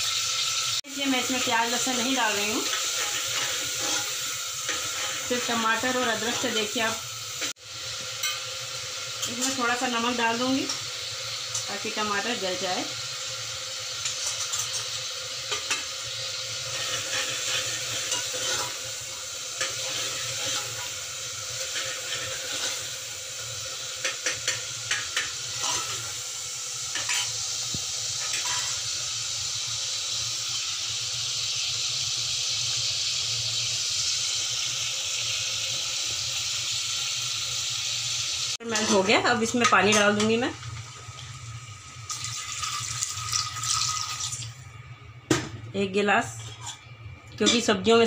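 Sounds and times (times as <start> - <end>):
food sizzling in a pot: 0.0 - 48.0.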